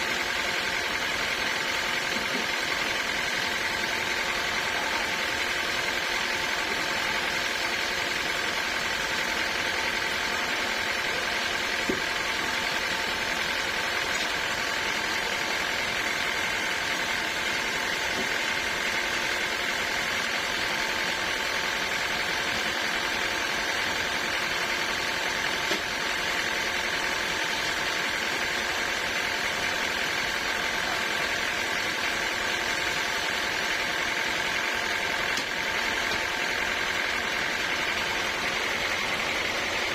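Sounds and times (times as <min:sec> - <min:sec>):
sawmill machinery hum and whine: 0:00.0 - 0:39.9.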